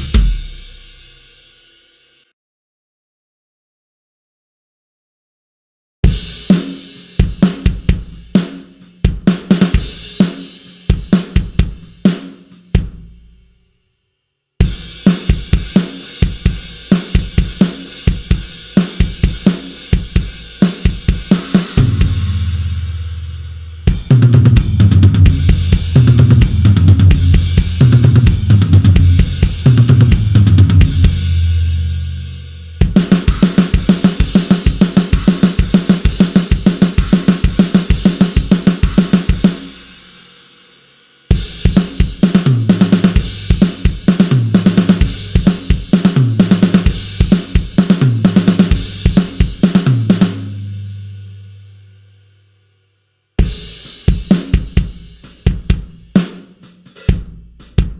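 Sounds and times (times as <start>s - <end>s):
rock drum kit playing: 0.0s - 1.8s, 6.0s - 13.3s, 14.6s - 40.3s, 41.3s - 51.1s, 53.4s - 57.9s.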